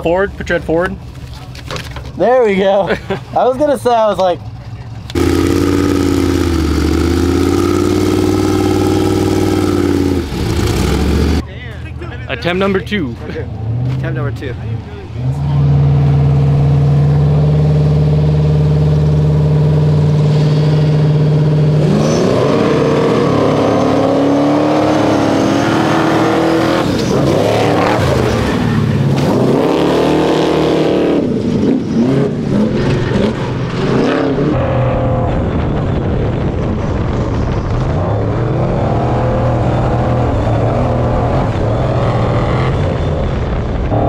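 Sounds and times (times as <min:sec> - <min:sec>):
truck engine accelerating: 0:01.8 - 0:44.0.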